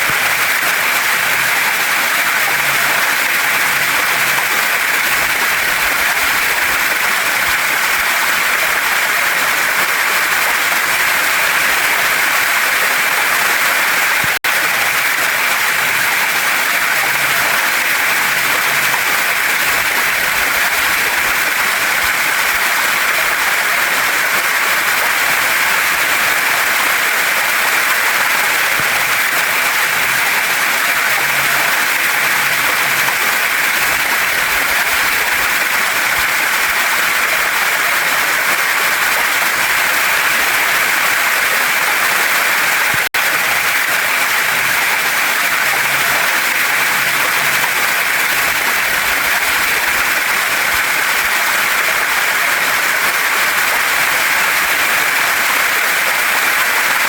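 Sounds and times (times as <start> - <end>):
waterfall pouring over rocks: 0.0 - 57.0.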